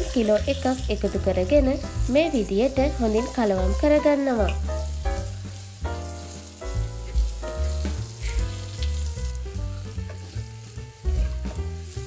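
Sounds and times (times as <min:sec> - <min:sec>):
background music with bass: 0:00.0 - 0:12.0
chicken sizzling in oil: 0:00.0 - 0:12.0.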